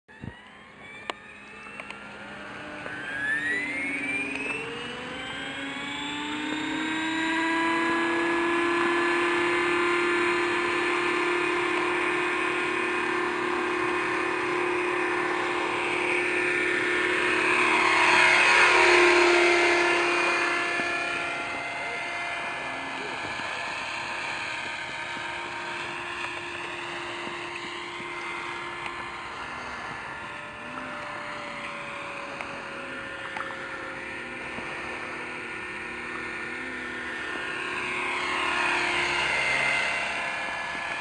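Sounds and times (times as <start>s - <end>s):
helicopter motor whine: 0.1s - 41.0s
rotor rushing: 0.1s - 41.0s.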